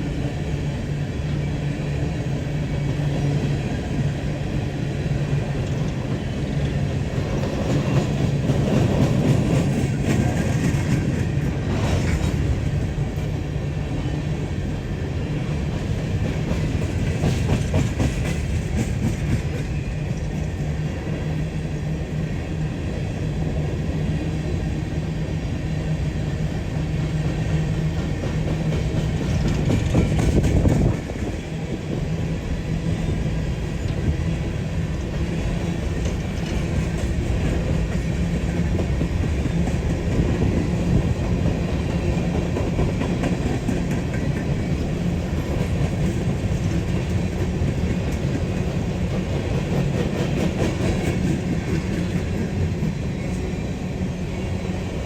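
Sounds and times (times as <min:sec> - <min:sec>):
diesel locomotive engine: 0:00.0 - 0:55.0
train wheels clacking on rail joints: 0:01.3 - 0:13.6, 0:15.3 - 0:21.8, 0:26.1 - 0:32.1, 0:32.9 - 0:53.5.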